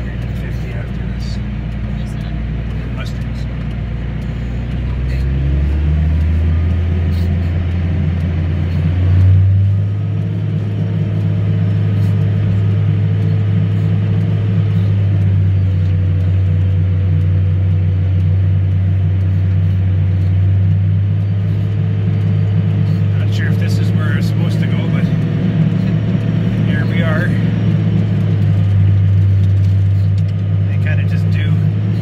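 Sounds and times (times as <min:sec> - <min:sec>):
engine drone inside cab: 0:00.0 - 0:32.0.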